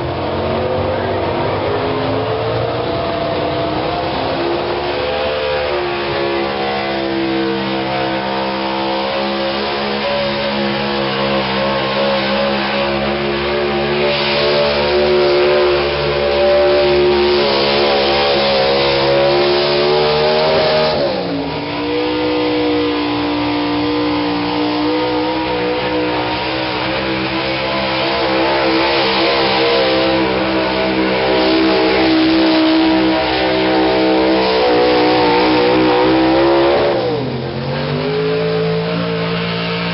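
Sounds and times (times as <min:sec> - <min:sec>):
truck engine revving under load: 0:00.0 - 0:39.9.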